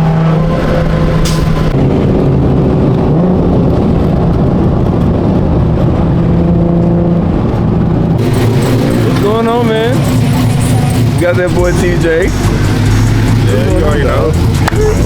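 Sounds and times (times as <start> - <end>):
car engine running: 0.0 - 15.0
road rumble: 0.0 - 15.0.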